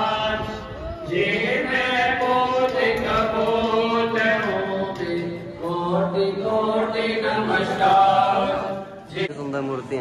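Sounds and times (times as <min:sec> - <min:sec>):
person chanting a hymn: 0:00.0 - 0:09.4.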